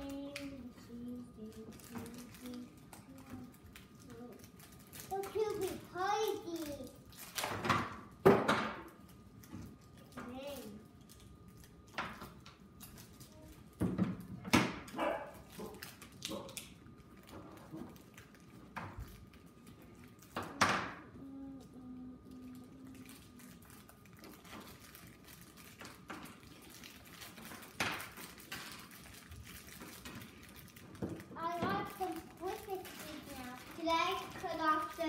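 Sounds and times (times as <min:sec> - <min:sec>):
plastic wrappers crinkling: 0:00.0 - 0:08.2, 0:08.8 - 0:20.6, 0:21.8 - 0:35.0.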